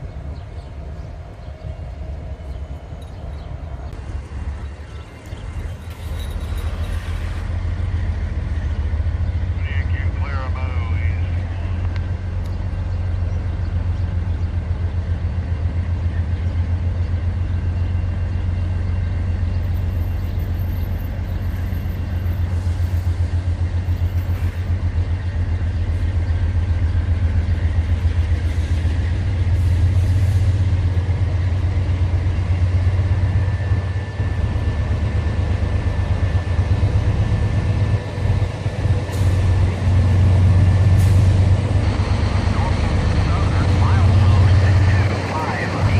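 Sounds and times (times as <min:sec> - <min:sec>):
diesel locomotive engine throb: 0:00.0 - 0:45.9.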